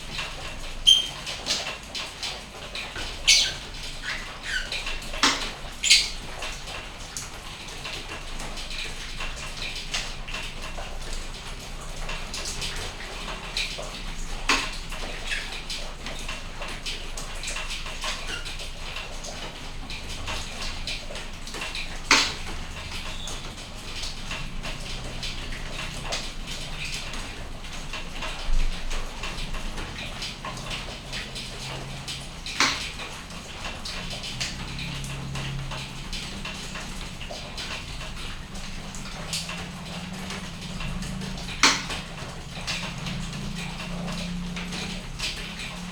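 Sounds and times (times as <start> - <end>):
rain pattering: 0.0 - 45.9
sharp taps of drips: 0.0 - 45.9.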